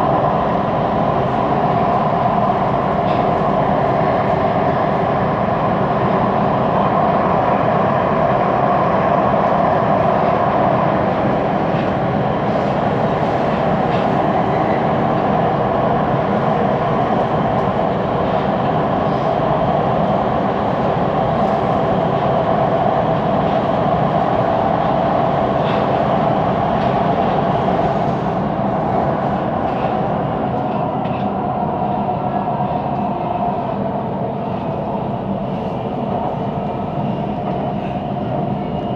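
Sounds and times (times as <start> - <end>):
metro train rolling on rails: 0.0 - 38.9.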